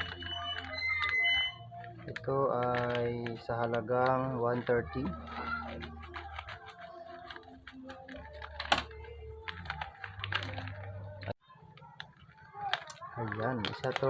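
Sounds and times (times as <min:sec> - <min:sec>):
packaging clicks and rattling: 0:00.0 - 0:14.0.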